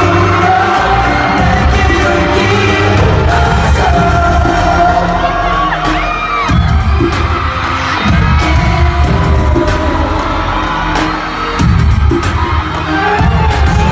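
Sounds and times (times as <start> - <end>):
crowd screaming: 0.0 - 13.9
heavy bass beat: 0.0 - 13.9
live pop song through sound system: 0.0 - 13.9
person singing: 0.0 - 13.9.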